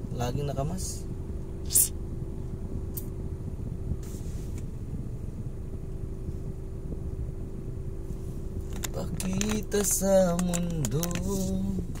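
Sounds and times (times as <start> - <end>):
car interior rumble: 0.0 - 12.0
engine hum: 0.0 - 12.0.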